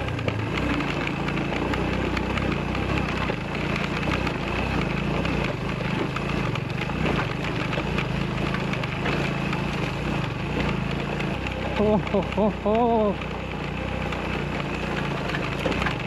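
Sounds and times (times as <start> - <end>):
motorcycle engine at low speed: 0.0 - 16.0
stones crunching and rattling: 0.0 - 16.0.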